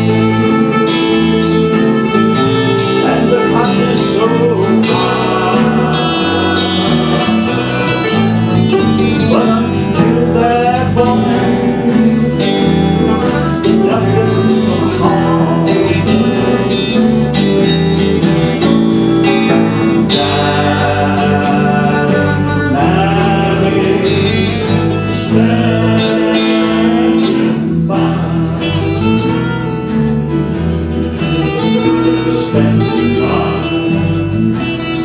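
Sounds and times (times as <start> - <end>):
bass: 0.0 - 35.0
guitars: 0.0 - 35.0
mandolin: 0.0 - 35.0.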